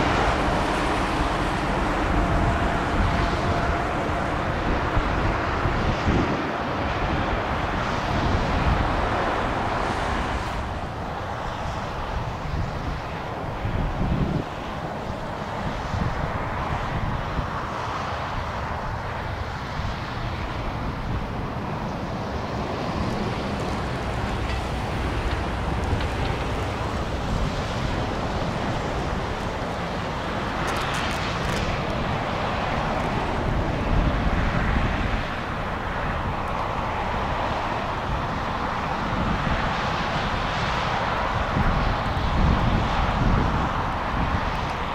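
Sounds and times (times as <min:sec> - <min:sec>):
jet engines rumbling: 0:00.0 - 0:44.9
wind buffeting microphone: 0:00.0 - 0:44.9.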